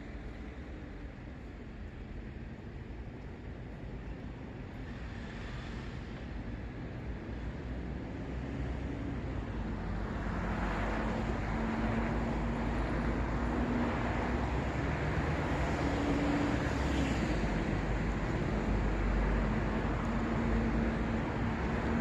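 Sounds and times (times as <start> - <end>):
city road traffic: 0.0 - 22.0.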